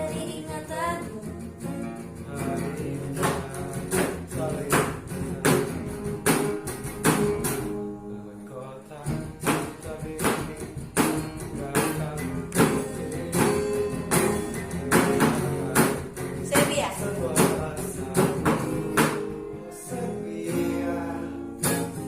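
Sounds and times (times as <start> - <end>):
strummed acoustic guitar: 0.0 - 22.0.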